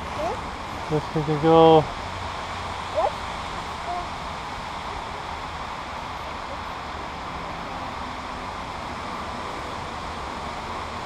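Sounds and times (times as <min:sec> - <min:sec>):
flowing creek water: 0:00.0 - 0:11.0.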